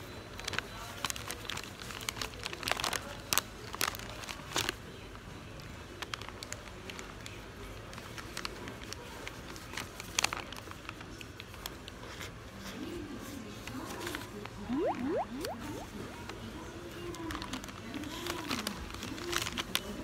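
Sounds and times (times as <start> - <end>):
paper wrapper crinkling: 0.4 - 4.8, 5.9 - 14.5, 15.6 - 20.0.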